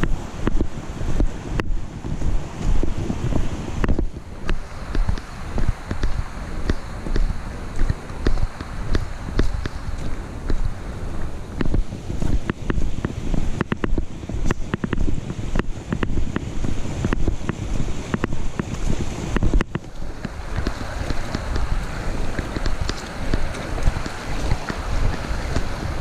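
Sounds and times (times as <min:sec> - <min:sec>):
camera knocking with footsteps: 0:00.0 - 0:26.0
creek rushing over rocks: 0:00.0 - 0:26.0
wind rumble on microphone: 0:00.0 - 0:26.0.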